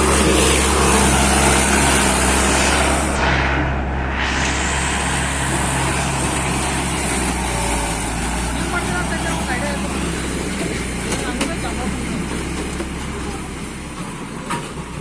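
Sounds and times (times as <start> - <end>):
tractor diesel engine running: 0.0 - 3.2, 4.4 - 15.0.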